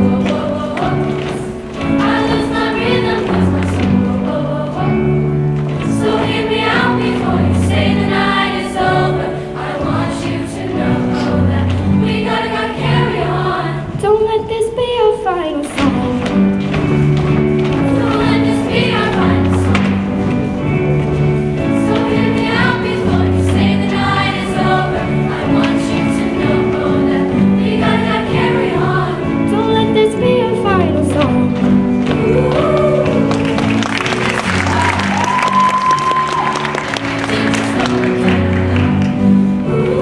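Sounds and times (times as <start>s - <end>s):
choir singing: 0.0s - 14.0s, 17.7s - 30.6s, 31.9s - 40.0s
instrumental accompaniment: 0.0s - 40.0s.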